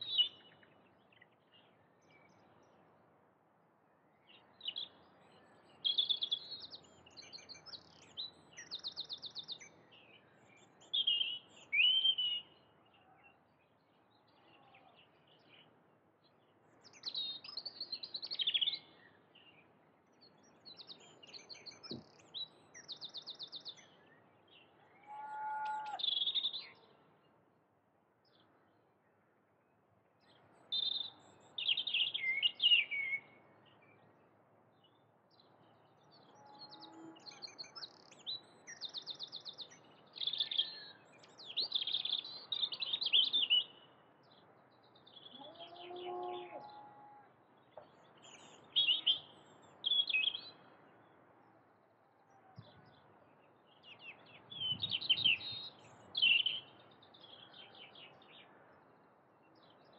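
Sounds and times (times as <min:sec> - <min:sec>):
faint background noise: 0:00.0 - 0:59.9
songbirds chirping and trilling: 0:00.0 - 0:59.9.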